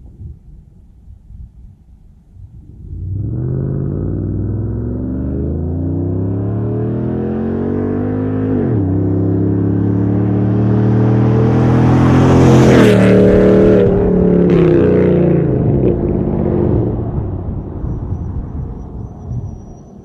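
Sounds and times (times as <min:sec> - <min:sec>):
truck engine accelerating past: 0:02.8 - 0:20.0.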